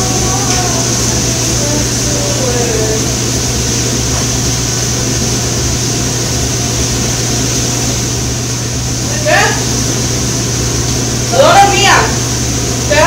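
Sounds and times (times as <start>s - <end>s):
kitchen equipment low hum: 0.0s - 13.0s
ventilation hiss: 0.0s - 13.0s.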